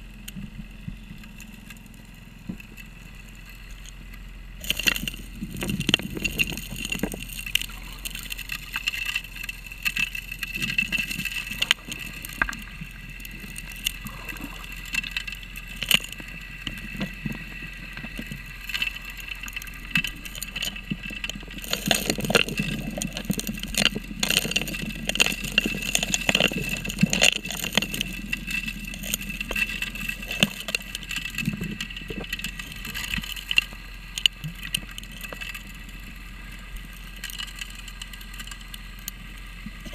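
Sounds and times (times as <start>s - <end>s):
low rumble: 0.0s - 39.9s
steady high whine: 0.0s - 39.9s
stones clicking in suction hose: 4.6s - 36.0s, 36.7s - 39.9s.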